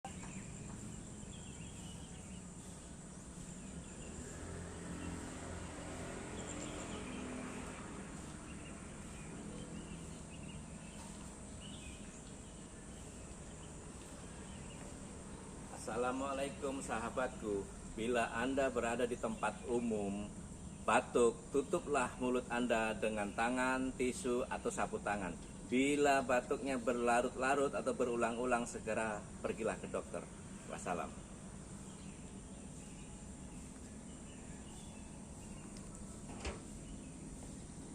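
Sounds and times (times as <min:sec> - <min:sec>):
low hum and hiss: 0:00.0 - 0:37.9.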